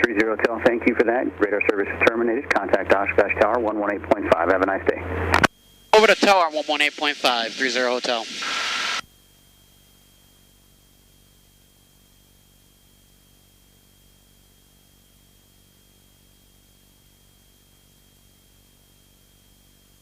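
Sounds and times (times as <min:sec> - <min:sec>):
cockpit audio hiss and hum: 0:00.0 - 0:20.0.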